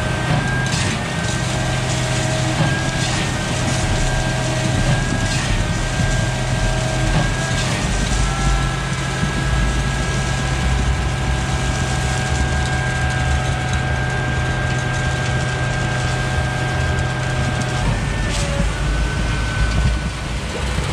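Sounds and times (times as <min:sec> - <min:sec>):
high whine: 0:00.0 - 0:20.8
diesel engine running: 0:00.0 - 0:20.9.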